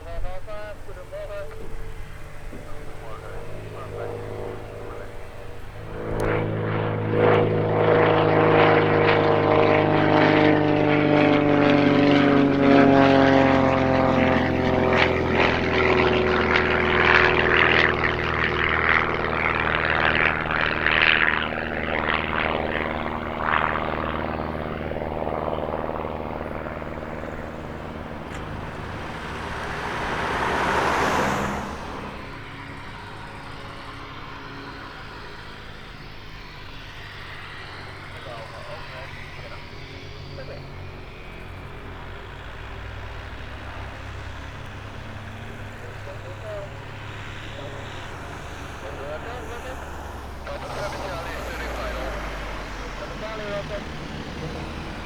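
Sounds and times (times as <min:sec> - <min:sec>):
propeller aircraft passing: 0:00.0 - 0:55.0.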